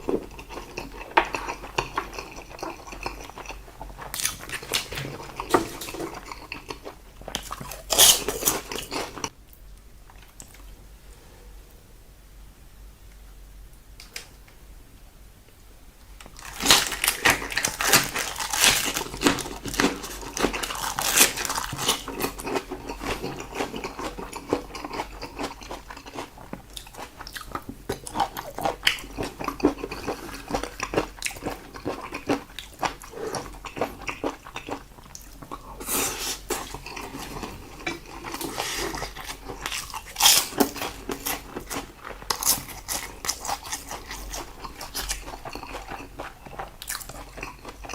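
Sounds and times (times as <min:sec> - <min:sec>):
person chewing food: 0:00.0 - 0:09.4, 0:16.2 - 0:47.9.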